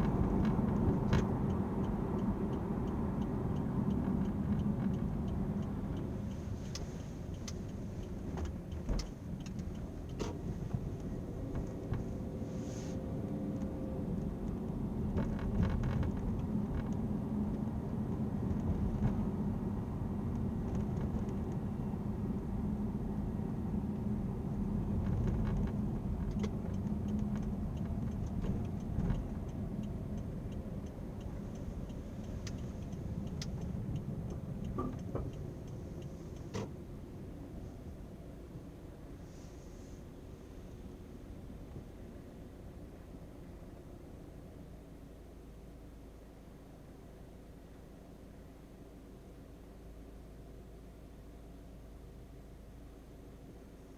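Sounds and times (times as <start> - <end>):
car road noise rumble: 0.0 - 53.9.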